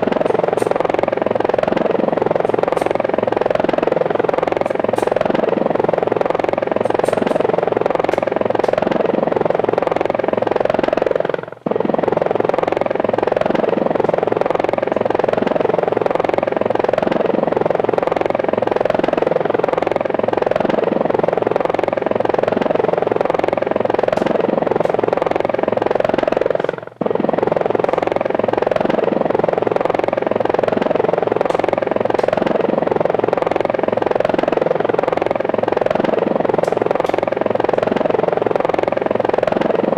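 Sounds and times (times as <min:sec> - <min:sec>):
helicopter rotors whirring: 0:00.0 - 0:39.9.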